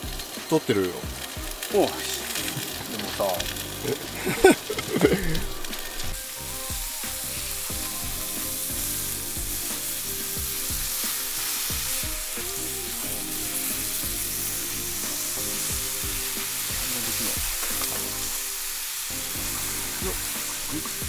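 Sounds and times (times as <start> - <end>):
steaks sizzling on griddle: 0.0 - 21.0.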